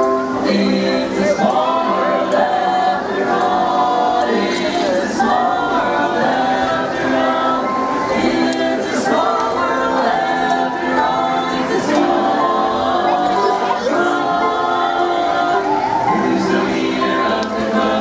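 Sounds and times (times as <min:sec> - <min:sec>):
a cappella quartet singing: 0:00.0 - 0:18.0.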